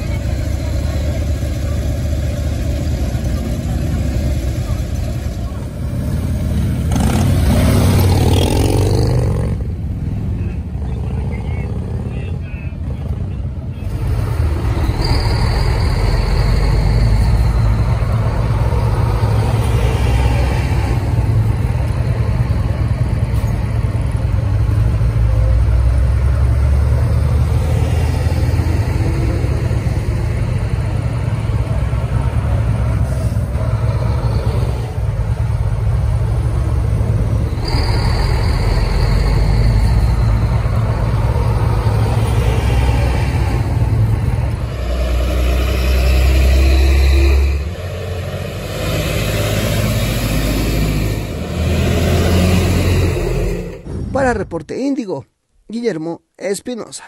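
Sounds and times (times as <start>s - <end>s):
bus diesel engines rumbling: 0.0s - 54.1s.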